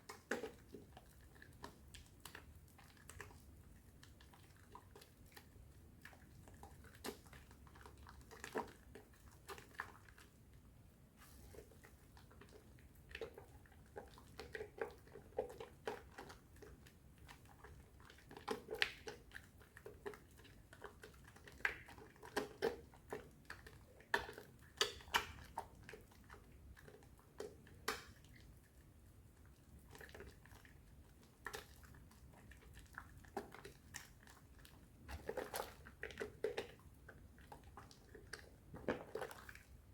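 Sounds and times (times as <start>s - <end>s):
wet soap squishes: 0.0s - 39.9s.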